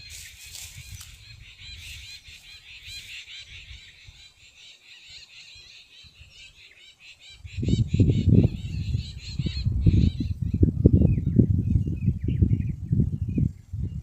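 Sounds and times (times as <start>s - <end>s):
high bird calls chattering: 0.0s - 13.5s.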